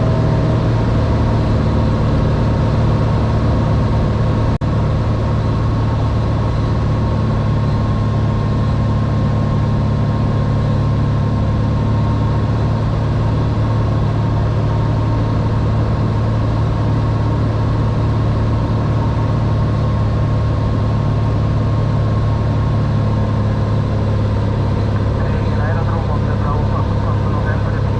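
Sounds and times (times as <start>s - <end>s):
propeller plane engine droning: 0.0s - 27.9s.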